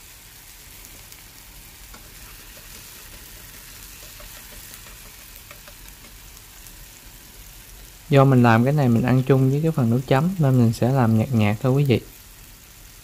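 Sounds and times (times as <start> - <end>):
tomatoes sizzling in oil: 0.0 - 13.0
chopsticks stirring in pan: 0.7 - 11.9.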